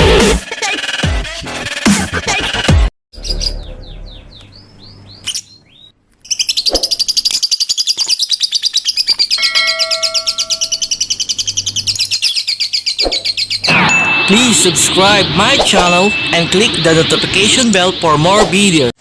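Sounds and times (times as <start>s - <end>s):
lovebirds chirping: 3.2s - 18.9s.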